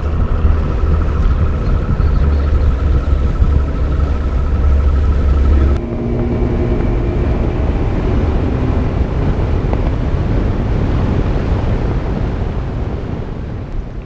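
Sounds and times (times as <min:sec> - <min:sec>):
outboard engine drone: 0:00.0 - 0:14.0
water rushing past hull: 0:00.0 - 0:14.0
wind buffeting microphone: 0:00.0 - 0:14.0.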